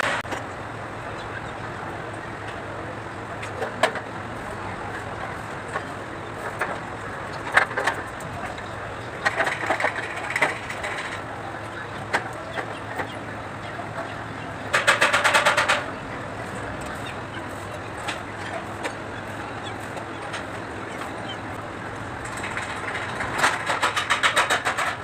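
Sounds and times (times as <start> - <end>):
diesel engine cranking: 0.0 - 25.0.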